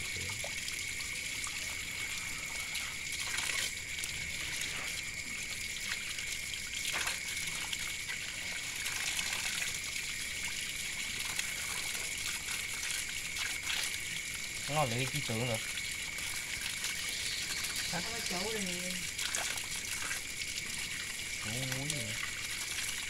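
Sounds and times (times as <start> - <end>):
running water trickling and splashing: 0.0 - 23.0.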